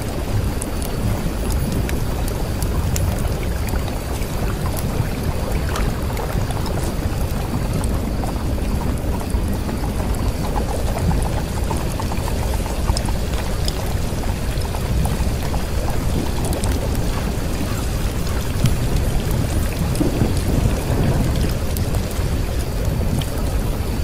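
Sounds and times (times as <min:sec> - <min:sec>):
light ticks and crackles: 0:00.0 - 0:24.0
rain-like rushing noise: 0:00.0 - 0:24.0.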